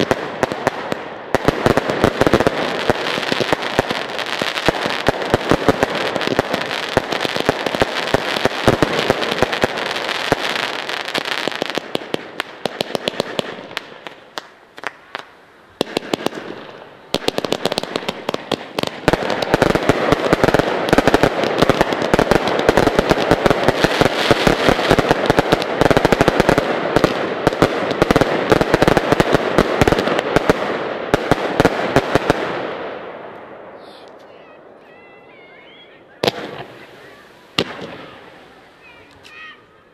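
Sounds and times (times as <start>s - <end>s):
fireworks bangs and crackle: 0.0s - 39.6s.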